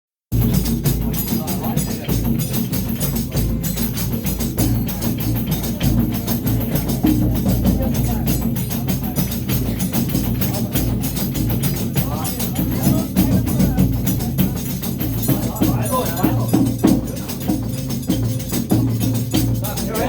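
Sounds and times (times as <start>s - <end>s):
deep drum: 0.3s - 20.0s
fast clicking percussion strokes: 0.3s - 20.0s.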